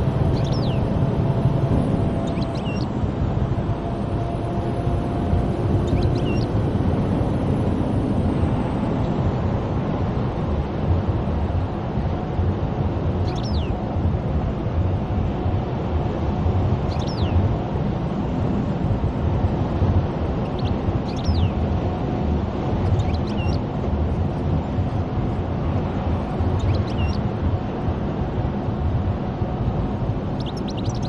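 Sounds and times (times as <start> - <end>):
car road rumble inside cabin: 0.0 - 31.0.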